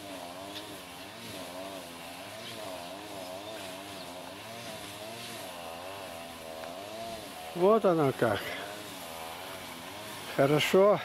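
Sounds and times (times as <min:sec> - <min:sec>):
motor with wavering pitch: 0:00.0 - 0:10.3.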